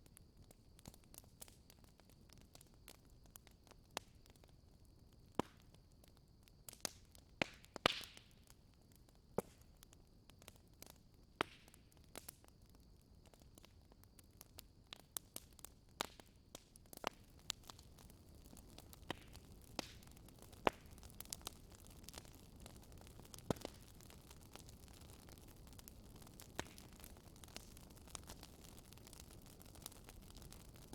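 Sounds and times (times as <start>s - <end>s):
faint steady hiss: 0.0s - 30.9s
fire crackling with sharp pops: 0.0s - 30.9s.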